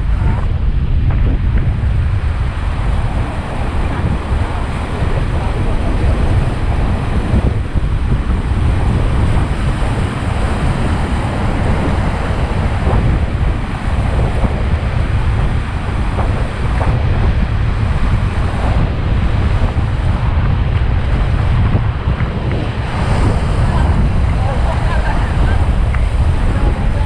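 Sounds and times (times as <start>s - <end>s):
whitewater rushing around raft: 0.0s - 27.0s
wind buffeting microphone: 0.0s - 27.0s.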